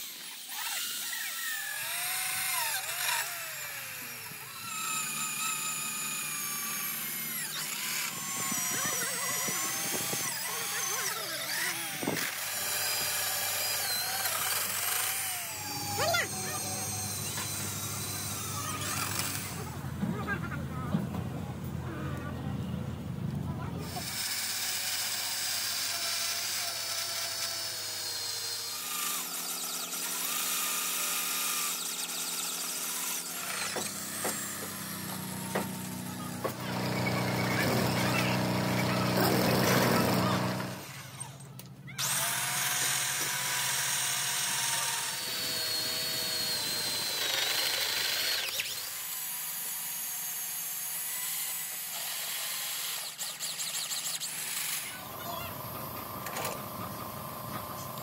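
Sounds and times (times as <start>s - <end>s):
power tools running: 0.0s - 21.2s, 23.8s - 58.0s
steady motor whine: 0.0s - 58.0s.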